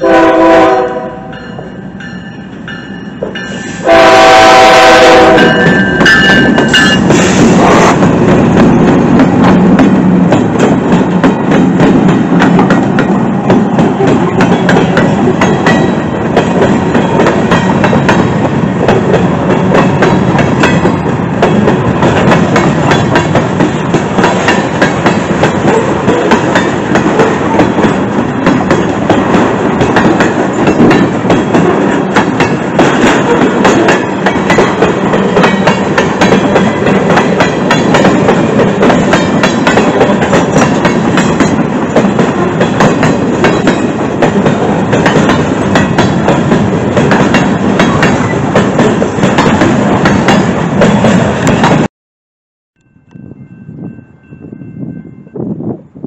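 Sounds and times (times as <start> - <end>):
freight train rumbling: 0.0 - 51.9, 53.0 - 56.0.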